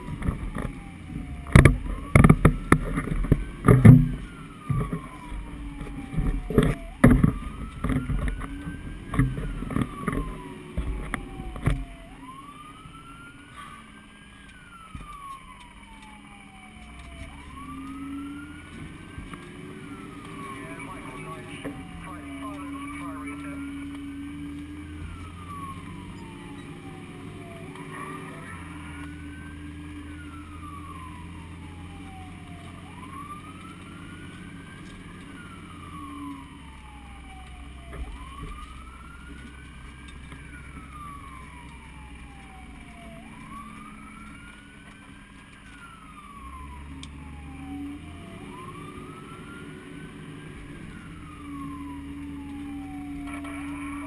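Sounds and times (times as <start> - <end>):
fire engine siren wailing: 0.0 - 54.0
truck engine drone: 0.0 - 54.0.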